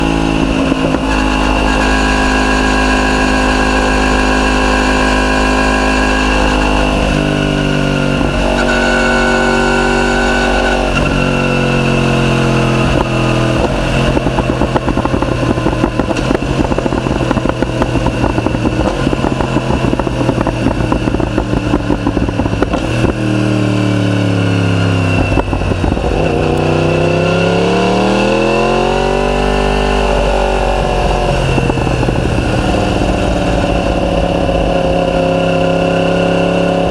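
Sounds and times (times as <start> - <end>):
exhaust crackles and pops: 0.0 - 36.9
motorcycle engine revving: 0.0 - 36.9.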